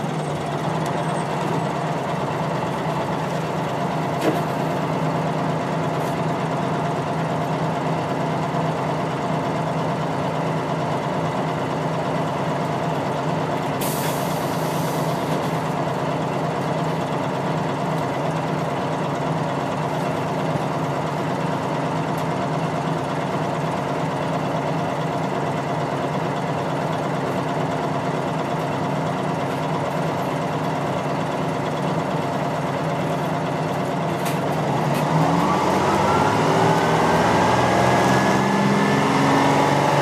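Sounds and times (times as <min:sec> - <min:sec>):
diesel bus engine idling and revving: 0:00.0 - 0:40.0.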